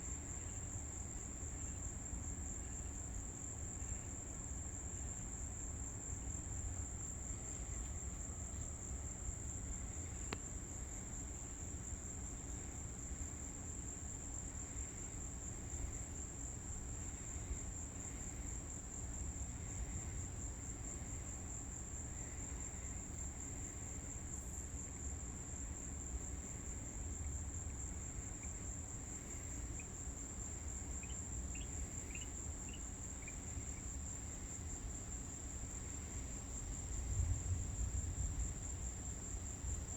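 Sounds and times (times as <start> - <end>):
insects trilling: 0.0 - 39.9
low steady rumble: 4.8 - 39.9.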